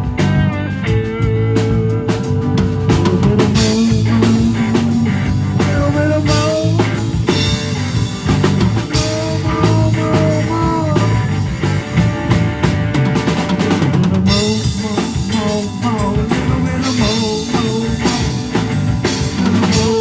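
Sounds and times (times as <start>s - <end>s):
lead guitar bending notes: 0.0s - 20.0s
rock band playing: 0.0s - 20.0s.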